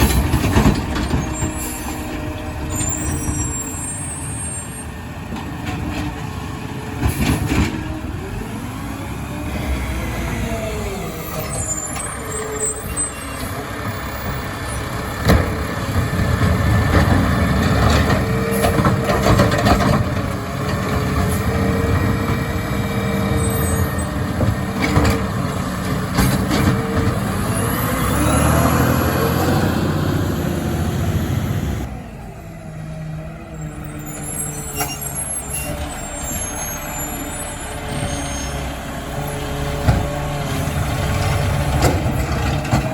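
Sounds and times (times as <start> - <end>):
garbage truck running: 0.0 - 42.9.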